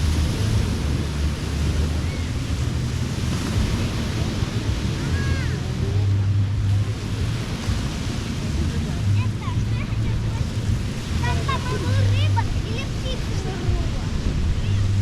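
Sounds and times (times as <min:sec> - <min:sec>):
ocean surf on a beach: 0:00.0 - 0:15.0
wind buffeting microphone: 0:00.0 - 0:15.0.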